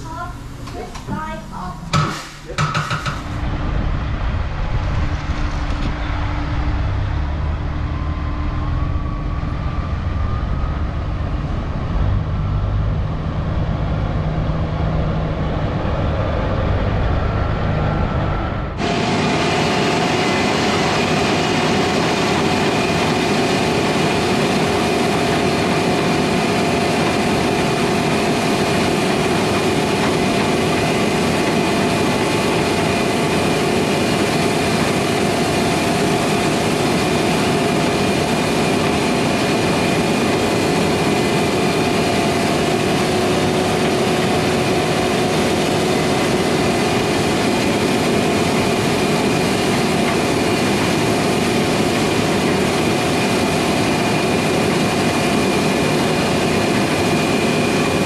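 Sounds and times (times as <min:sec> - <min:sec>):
steady engine drone: 0:00.0 - 0:58.0.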